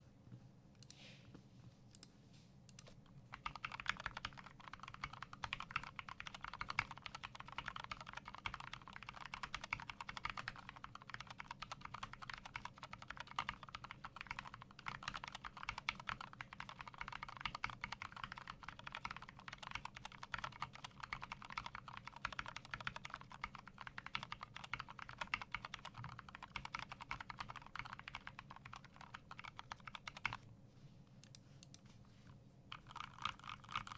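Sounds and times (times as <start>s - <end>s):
mechanical keyboard typing: 3.3s - 30.4s, 32.7s - 33.9s.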